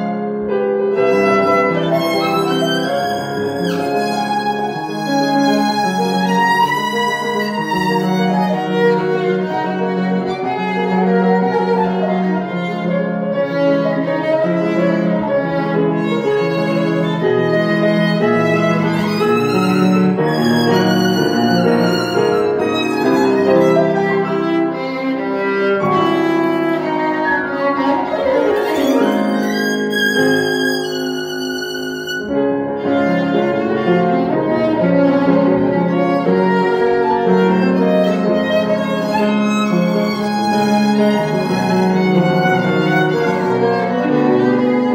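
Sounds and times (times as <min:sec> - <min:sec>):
piano accompaniment: 0:00.0 - 0:44.9
violin melody: 0:00.0 - 0:44.9.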